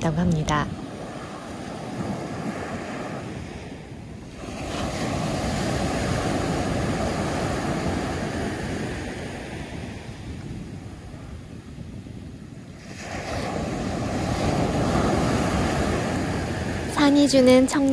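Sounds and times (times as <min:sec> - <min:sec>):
sea waves breaking on a beach: 0:00.0 - 0:17.9.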